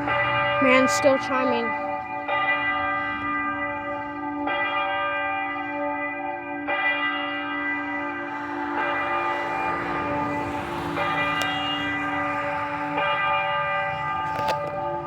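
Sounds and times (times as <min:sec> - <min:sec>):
church bell tolling: 0:00.0 - 0:15.0.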